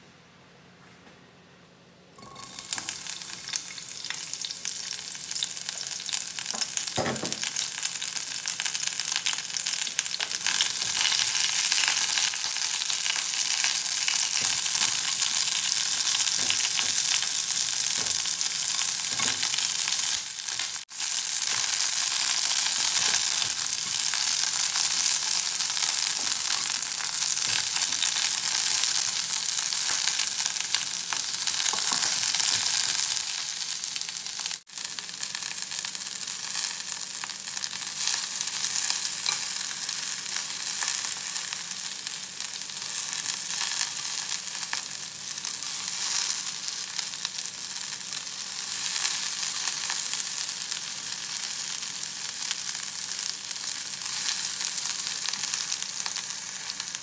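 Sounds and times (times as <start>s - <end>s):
onions sizzling in a frying pan: 2.4s - 57.0s.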